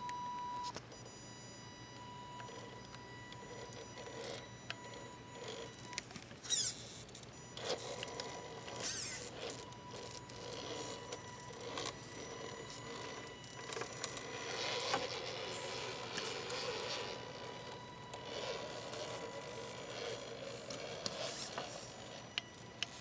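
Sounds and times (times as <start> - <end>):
toy car motor whining: 2.1 - 23.0.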